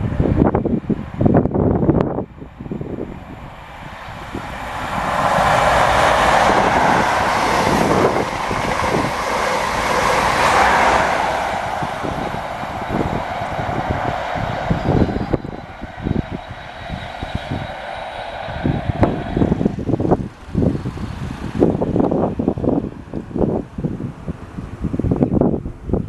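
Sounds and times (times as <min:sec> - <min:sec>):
fluttering low rumble: 0:00.0 - 0:25.1
vehicle passing close by: 0:02.6 - 0:25.0.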